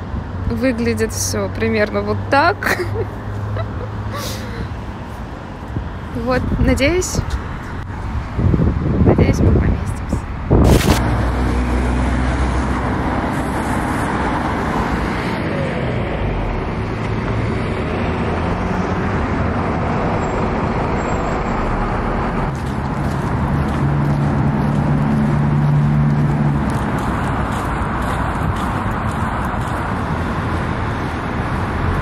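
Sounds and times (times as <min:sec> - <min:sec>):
passing cars: 0:00.0 - 0:32.0
vehicle engine hum: 0:00.0 - 0:32.0.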